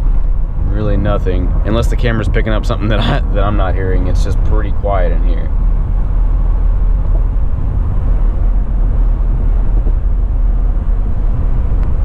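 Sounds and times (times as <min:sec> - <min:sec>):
car cabin wind noise: 0:00.0 - 0:12.0.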